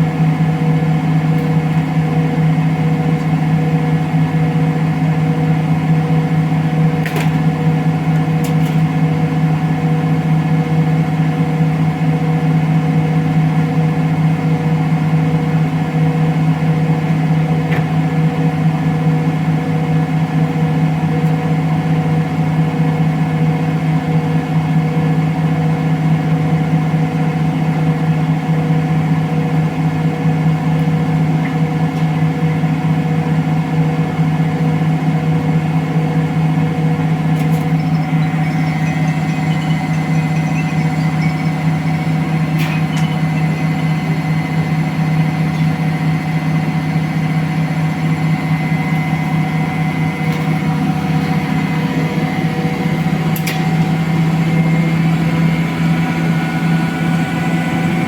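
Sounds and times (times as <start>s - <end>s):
washer whine: 0.0s - 58.0s
washing machine spinning: 0.0s - 58.0s.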